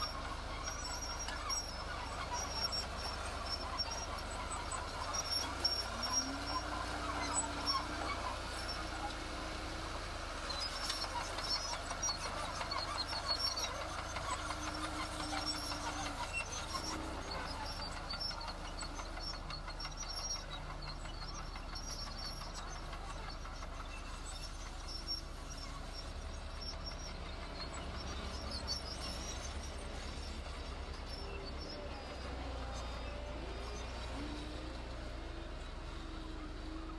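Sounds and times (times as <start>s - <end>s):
diesel engine rumbling: 0.0s - 36.9s.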